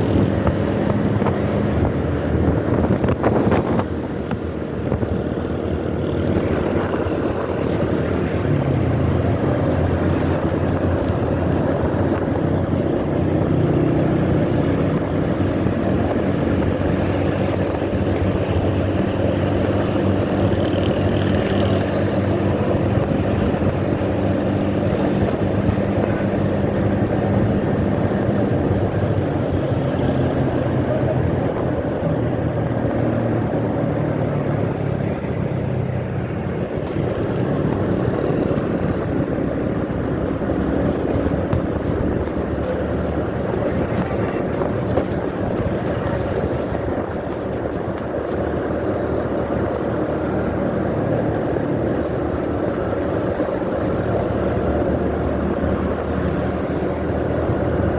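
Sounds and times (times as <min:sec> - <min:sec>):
motorcycle engine running: 0:00.0 - 0:57.9
road noise: 0:00.0 - 0:57.9.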